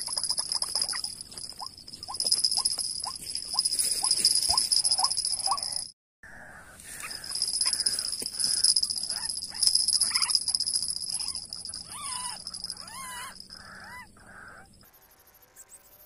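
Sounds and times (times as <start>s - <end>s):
birds calling harshly: 0.0s - 14.8s.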